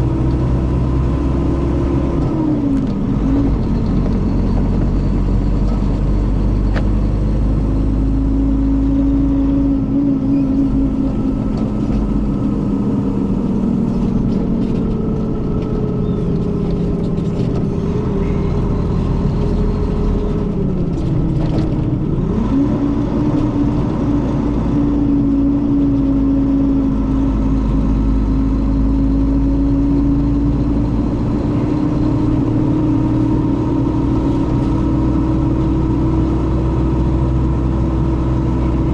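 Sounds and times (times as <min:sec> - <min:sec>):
bus diesel engine pulling: 0:00.0 - 0:38.9.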